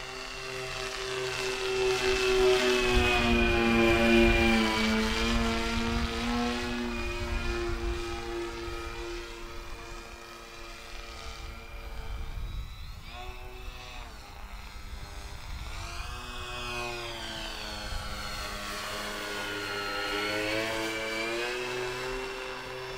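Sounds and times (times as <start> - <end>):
model plane propeller hum: 0.0 - 22.9.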